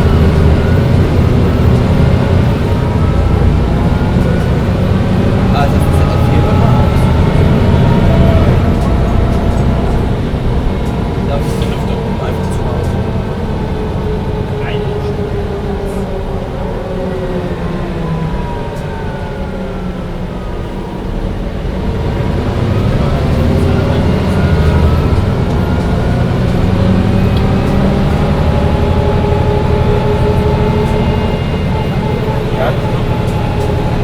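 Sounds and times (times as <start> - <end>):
bus diesel engine running: 0.0 - 34.0
drivetrain whine: 0.0 - 34.0.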